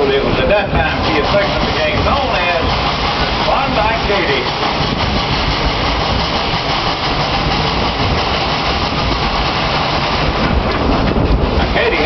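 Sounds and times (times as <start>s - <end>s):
steam locomotive working: 0.0s - 12.0s
train car rumble and rattle: 0.0s - 12.0s.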